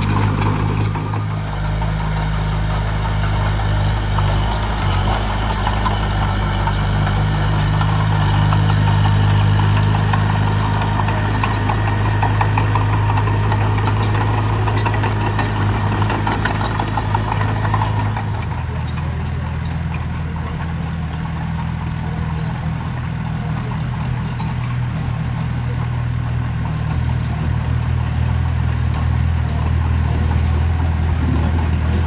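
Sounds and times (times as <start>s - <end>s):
fast clattering rattle: 0.0s - 32.0s
mini bulldozer engine droning: 0.0s - 32.0s.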